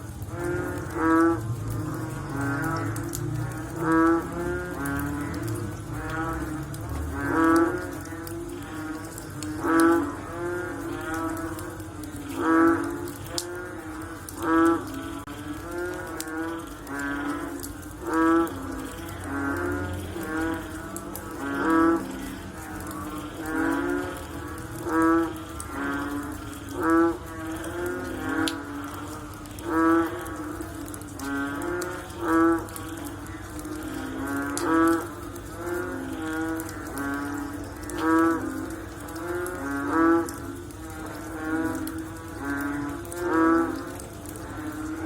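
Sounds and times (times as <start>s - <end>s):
frogs croaking in chorus: 0.0s - 45.0s.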